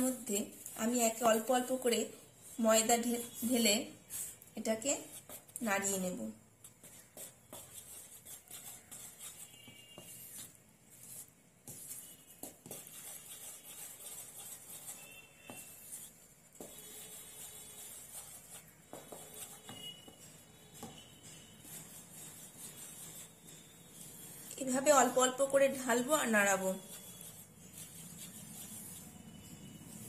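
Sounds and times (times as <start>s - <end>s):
spoon scraping batter in bowl: 0.0s - 30.0s.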